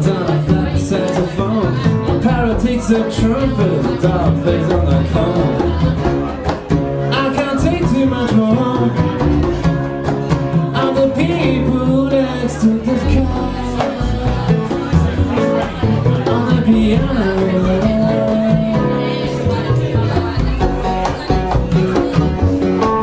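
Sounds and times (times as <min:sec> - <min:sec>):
congas: 0:00.0 - 0:23.0
hollow-body electric guitar: 0:00.0 - 0:23.0
man singing: 0:00.0 - 0:23.0
upright bass: 0:00.0 - 0:23.0.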